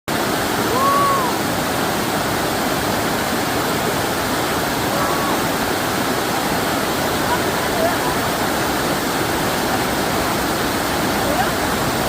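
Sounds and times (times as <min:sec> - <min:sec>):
stream water rushing: 0:00.1 - 0:12.0.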